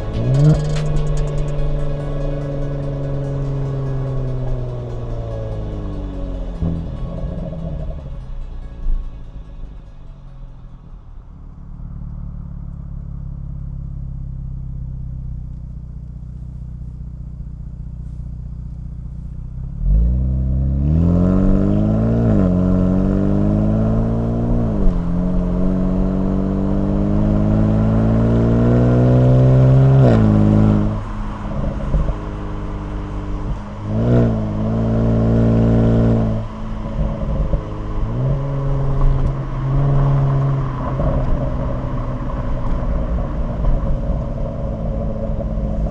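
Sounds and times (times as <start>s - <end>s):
exhaust pops and crackles: 0.0s - 20.6s, 23.9s - 45.9s
car engine revving: 0.0s - 45.9s.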